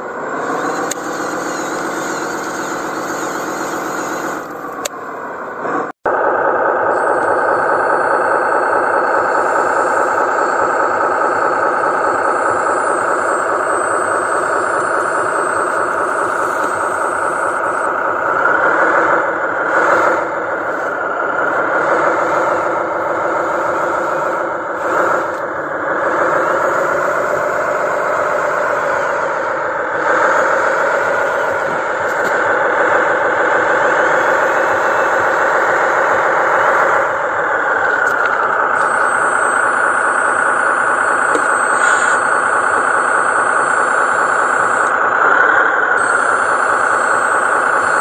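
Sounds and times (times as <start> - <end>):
truck motor whining drone: 0.0 - 48.0.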